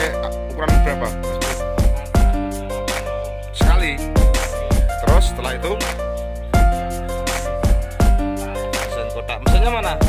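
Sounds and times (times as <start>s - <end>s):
music with heavy bass beats: 0.0s - 10.0s.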